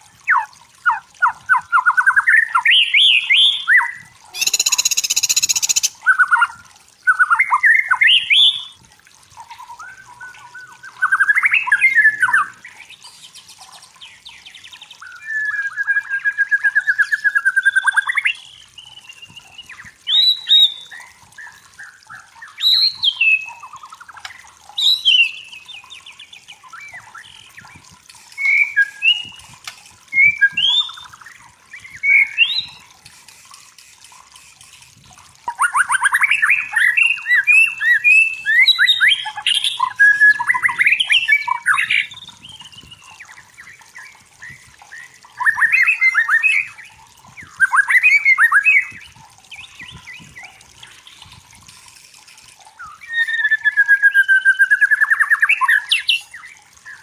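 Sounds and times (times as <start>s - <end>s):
songbird singing: 0.2s - 8.8s, 9.4s - 32.9s, 35.5s - 51.4s, 52.6s - 57.0s.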